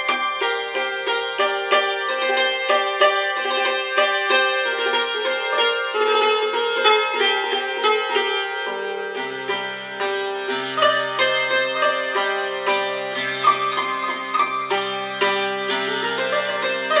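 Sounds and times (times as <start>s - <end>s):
hammered dulcimer folk melody: 0.0s - 17.0s.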